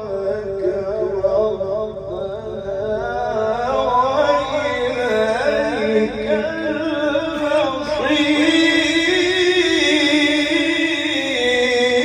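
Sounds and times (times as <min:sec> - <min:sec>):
man reciting melodically into microphone: 0:00.0 - 0:12.0.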